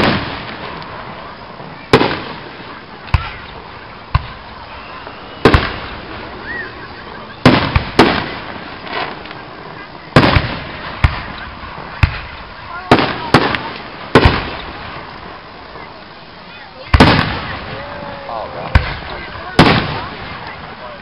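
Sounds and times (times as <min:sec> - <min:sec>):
firework shells bursting: 0:00.0 - 0:06.5, 0:07.4 - 0:21.0.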